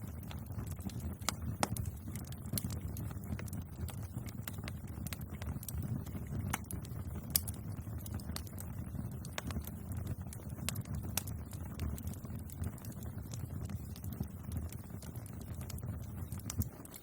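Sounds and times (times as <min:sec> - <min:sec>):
bonfire flames rumbling: 0:00.0 - 0:17.0
wood crackling and popping: 0:00.0 - 0:17.0.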